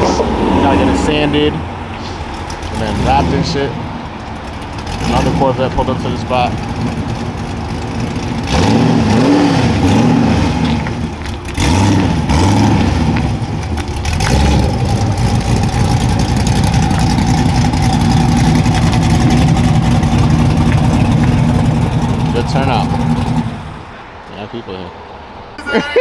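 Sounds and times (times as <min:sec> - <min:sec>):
car engine revving: 0:00.0 - 0:24.3.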